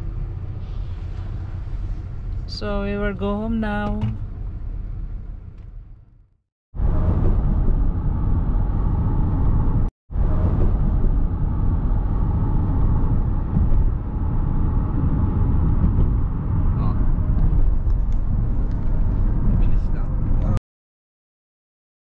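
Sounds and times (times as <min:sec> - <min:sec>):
car road and engine noise: 0:00.0 - 0:20.6.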